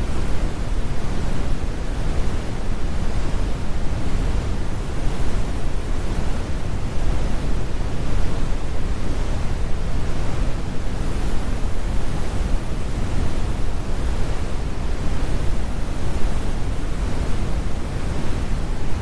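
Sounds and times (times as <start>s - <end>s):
brown noise: 0.0s - 19.0s.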